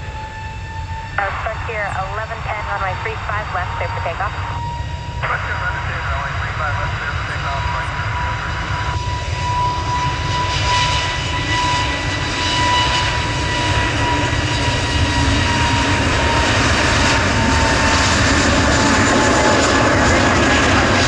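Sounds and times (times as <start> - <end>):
high jet engine whine: 0.0 - 21.0
jet engines rumbling: 0.0 - 21.0.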